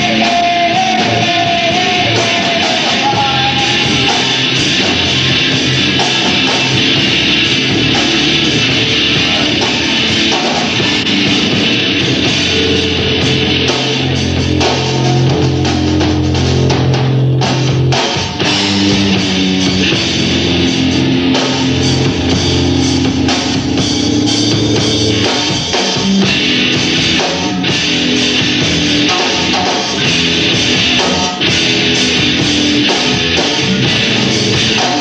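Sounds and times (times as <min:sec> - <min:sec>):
bass guitar: 0:00.0 - 0:35.0
drum kit: 0:00.0 - 0:35.0
electric guitars: 0:00.0 - 0:35.0.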